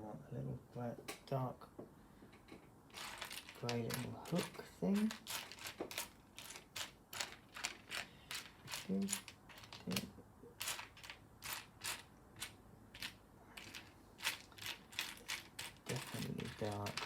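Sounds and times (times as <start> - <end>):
plastic bricks clicking and clattering: 3.0 - 17.0.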